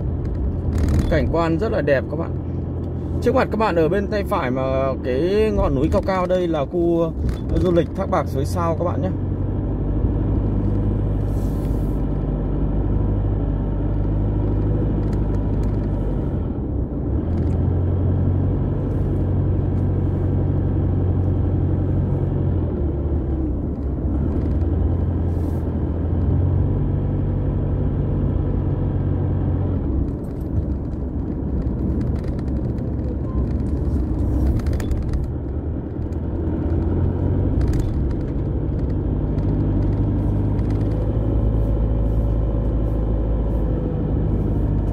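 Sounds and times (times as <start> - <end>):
car engine and tyre drone: 0.0 - 44.9.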